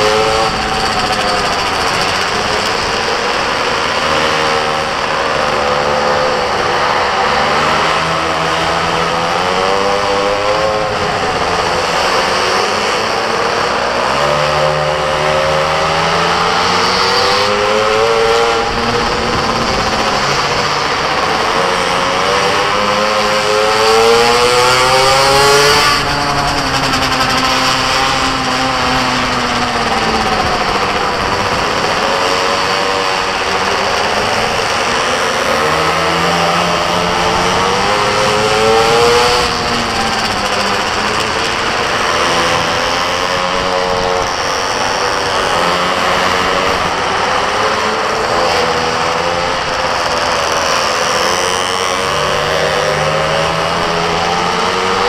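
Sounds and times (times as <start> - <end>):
small racing engine revving: 0.0 - 55.0.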